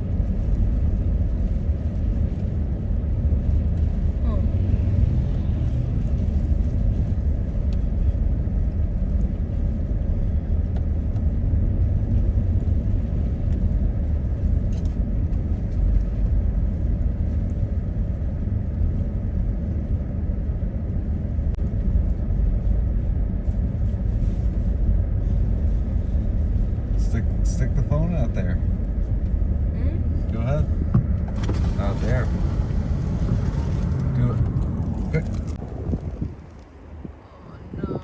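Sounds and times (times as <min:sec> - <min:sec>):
car cabin road noise: 0:00.0 - 0:38.0.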